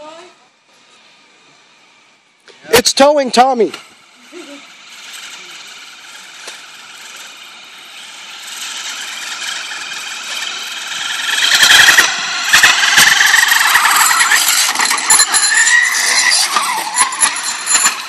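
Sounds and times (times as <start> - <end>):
tyres rolling on asphalt: 0.7 - 18.0
electric motor whining: 3.0 - 18.0.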